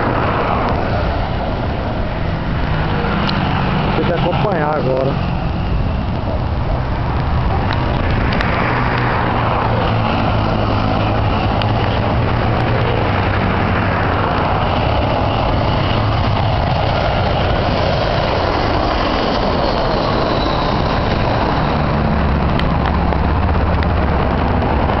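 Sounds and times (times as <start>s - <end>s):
jet airliner passing low: 0.0s - 25.0s.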